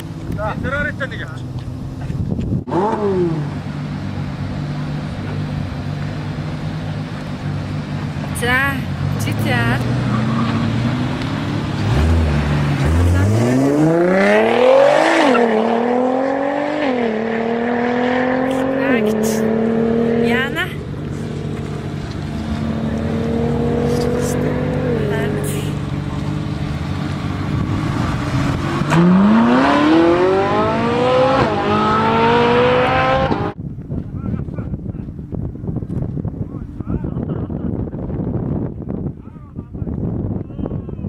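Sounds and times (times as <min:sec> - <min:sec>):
car engine accelerating hard: 0:00.0 - 0:33.6.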